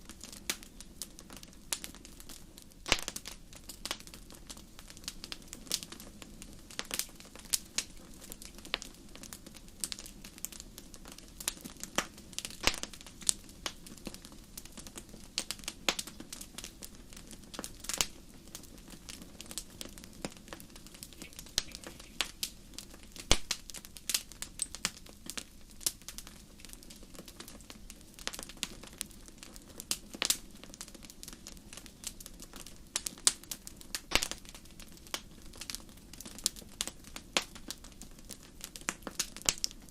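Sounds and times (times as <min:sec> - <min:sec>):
low rumble of flame: 0:00.0 - 0:39.9
wood fire pops and snaps: 0:00.0 - 0:39.9.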